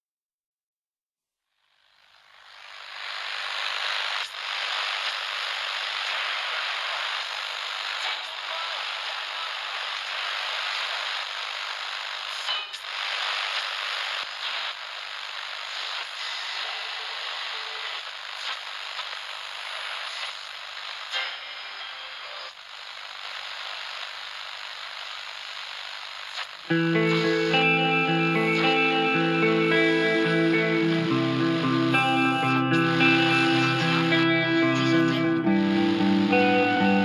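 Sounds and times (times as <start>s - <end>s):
static hiss: 1.6s - 37.0s
crackles and clicks: 2.2s - 36.8s.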